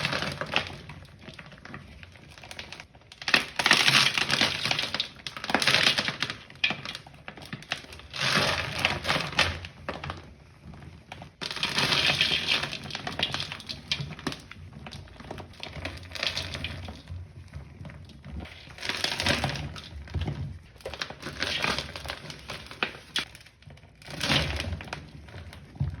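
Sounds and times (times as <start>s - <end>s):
powder balls crunching and crackling: 0.0s - 26.0s.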